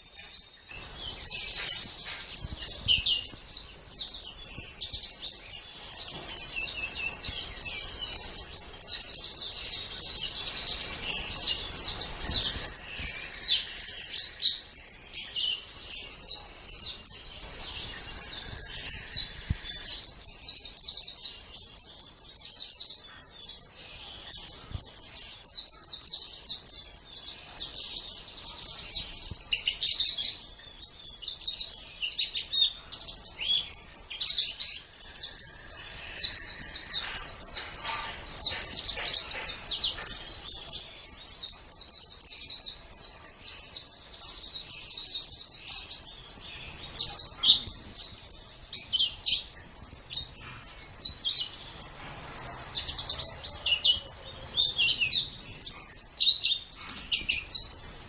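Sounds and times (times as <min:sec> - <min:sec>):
bird chattering with chirps and trills: 0:00.0 - 0:58.0.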